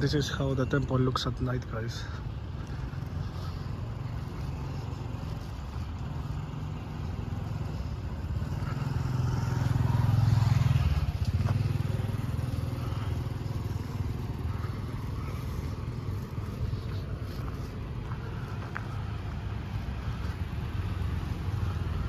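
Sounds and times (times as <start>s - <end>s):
vehicle engine rumble passing: 0.0s - 22.0s.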